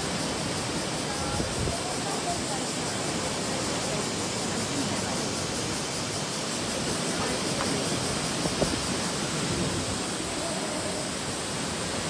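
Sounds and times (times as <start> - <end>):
surf rushing among rocks: 0.0 - 12.0.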